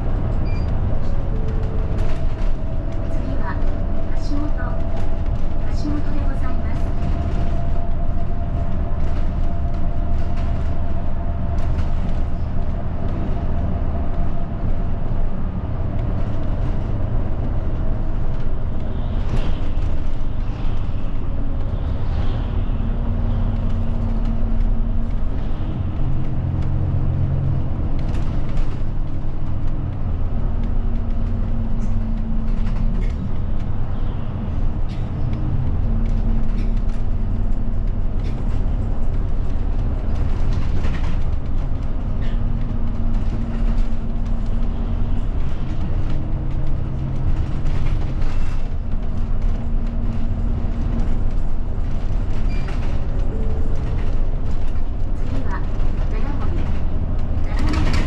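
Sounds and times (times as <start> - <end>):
bus engine: 0.0 - 58.0
road noise: 0.0 - 58.0.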